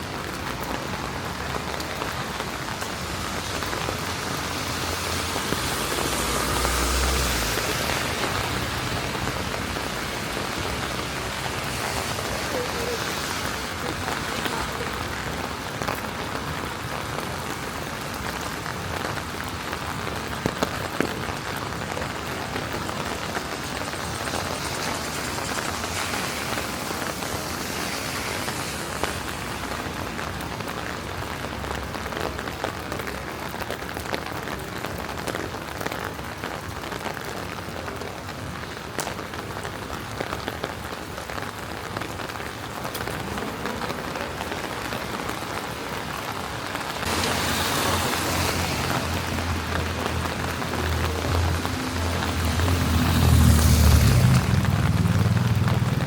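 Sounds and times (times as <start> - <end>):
rain hissing on a street: 0.0 - 56.0
raindrop ticks: 6.7 - 56.0.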